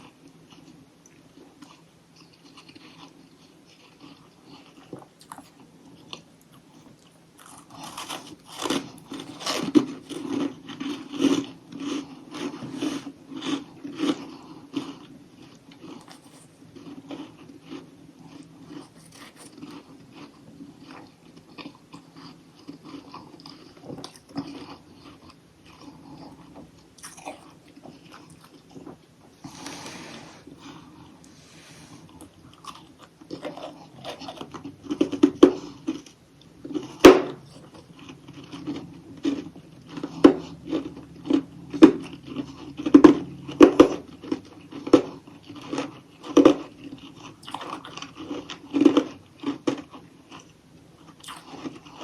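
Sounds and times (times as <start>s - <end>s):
person chewing crunchy ice: 1.4s - 52.0s.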